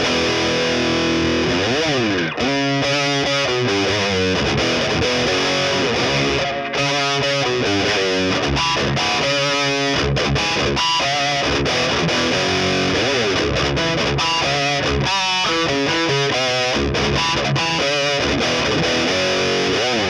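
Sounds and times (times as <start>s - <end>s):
overdriven electric guitar riffing: 0.0s - 20.0s.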